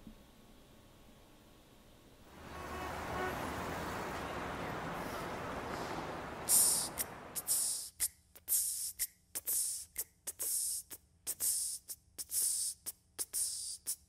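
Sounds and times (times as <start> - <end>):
hissing percussion beat: 2.4 - 14.0.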